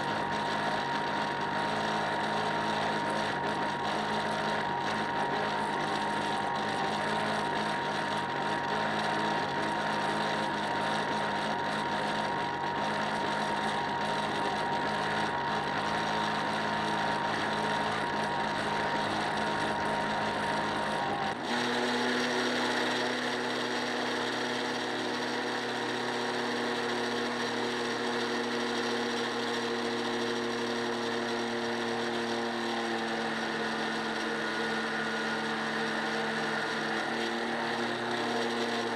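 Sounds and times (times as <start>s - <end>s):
motor whining: 0.0s - 38.9s.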